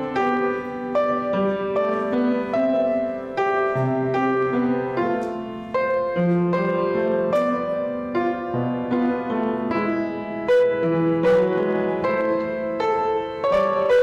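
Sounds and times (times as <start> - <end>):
slow solo piano: 0.0 - 14.0.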